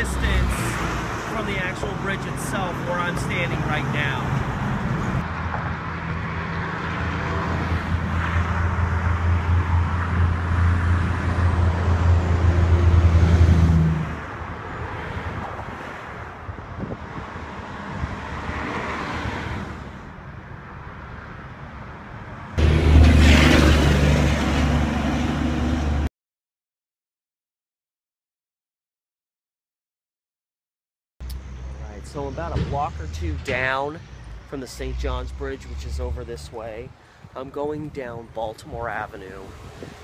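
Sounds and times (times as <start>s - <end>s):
cars passing: 0.0s - 26.1s, 31.2s - 40.0s.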